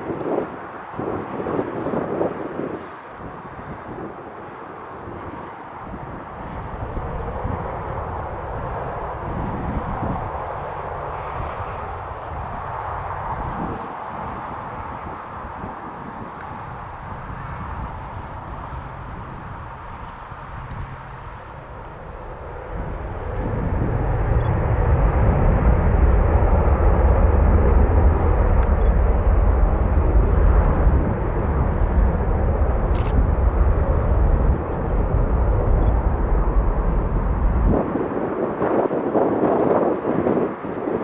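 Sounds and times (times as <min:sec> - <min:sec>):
aircraft engines running: 0:00.0 - 0:41.0
wind rumbling on microphone: 0:00.0 - 0:41.0.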